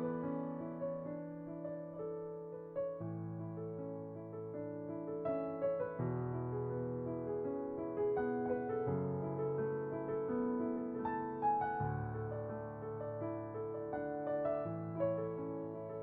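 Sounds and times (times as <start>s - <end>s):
slow solo piano melody: 0.0s - 16.0s.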